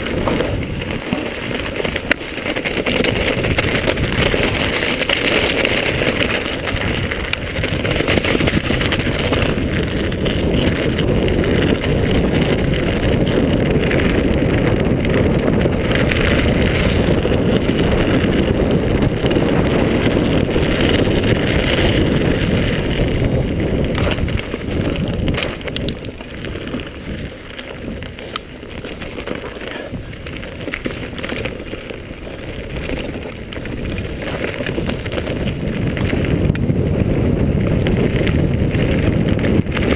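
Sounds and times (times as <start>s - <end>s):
bike tyres rattling over dirt: 0.0s - 39.9s
wind buffeting microphone: 0.0s - 39.9s.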